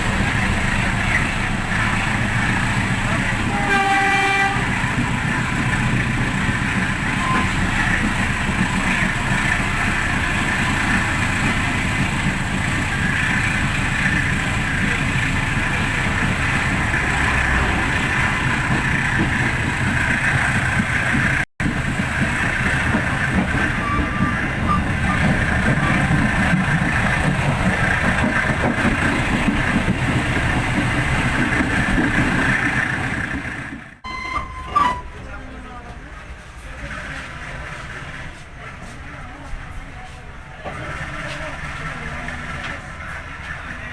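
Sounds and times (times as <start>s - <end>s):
train rumble and hiss: 0.0s - 43.9s.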